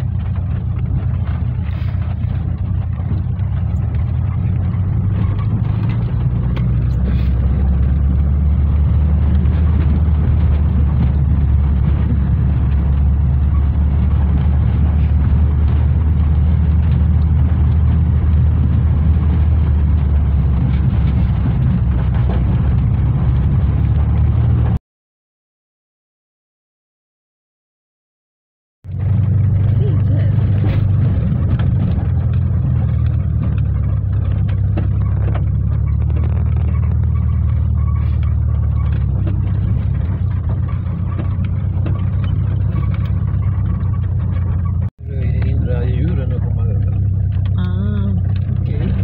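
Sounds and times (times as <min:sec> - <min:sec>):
small knocks and rattles: 0:00.0 - 0:24.5, 0:28.9 - 0:49.0
van engine drone: 0:00.0 - 0:24.8, 0:28.8 - 0:49.0.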